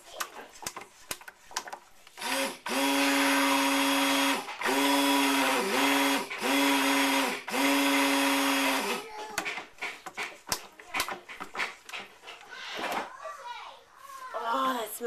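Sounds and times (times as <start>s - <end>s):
stick blender pulsing: 0.0s - 12.4s.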